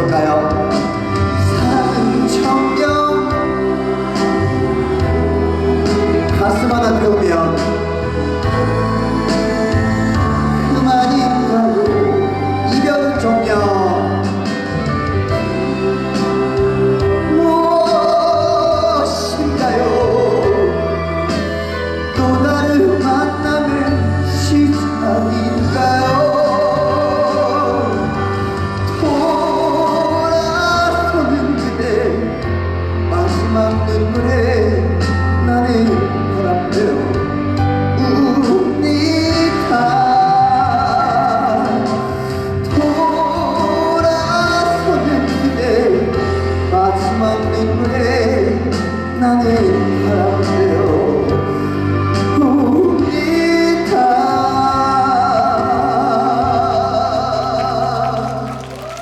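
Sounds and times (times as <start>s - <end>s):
heavy bass: 0.0s - 51.5s
person singing: 0.0s - 59.0s
song over a sound system: 0.0s - 59.0s.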